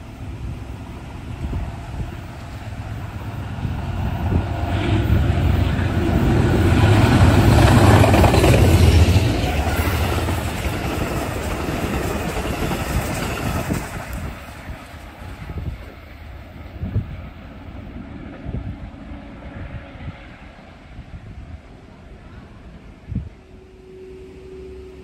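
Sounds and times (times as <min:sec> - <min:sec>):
passenger train passing: 0:00.0 - 0:25.0.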